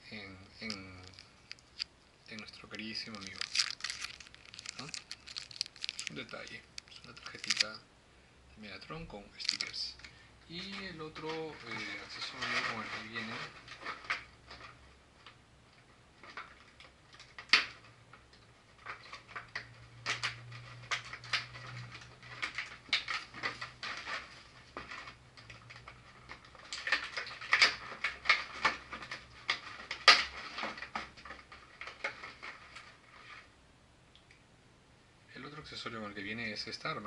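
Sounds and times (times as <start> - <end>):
plastic packaging crinkling and clicking: 0.1 - 7.8, 8.9 - 33.5.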